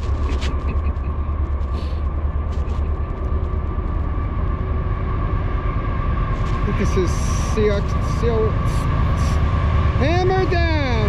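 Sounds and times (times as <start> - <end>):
freight train rumble: 0.0 - 11.0.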